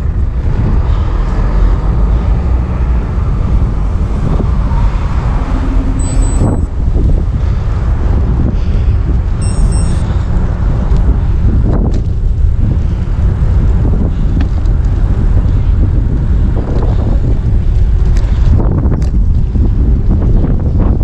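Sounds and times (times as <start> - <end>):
moving vehicle rumble: 0.0 - 21.0
wind buffeting microphone: 0.0 - 21.0.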